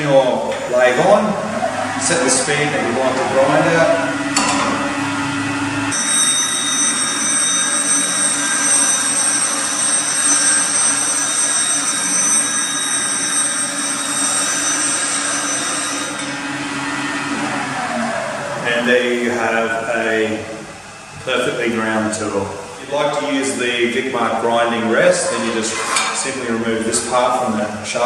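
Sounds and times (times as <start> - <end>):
lathe humming: 0.4 - 28.0.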